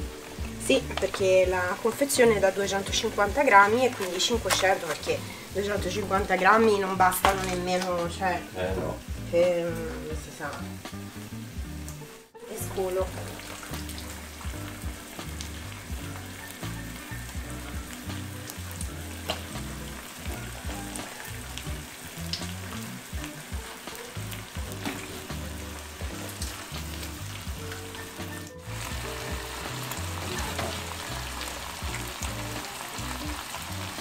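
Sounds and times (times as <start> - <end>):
sauce sizzling in a hot pan: 0.0 - 34.0.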